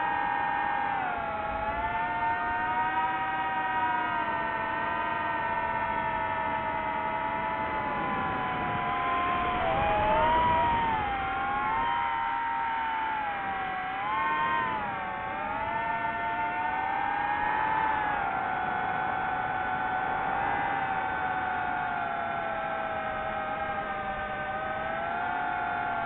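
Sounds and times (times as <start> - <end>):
drone propellers whining: 0.0 - 26.0.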